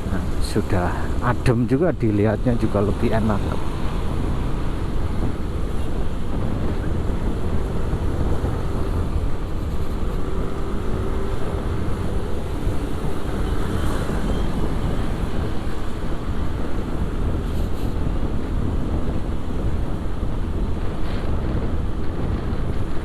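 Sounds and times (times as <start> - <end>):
road noise: 0.0 - 23.0
wind rushing over microphone: 0.0 - 23.0.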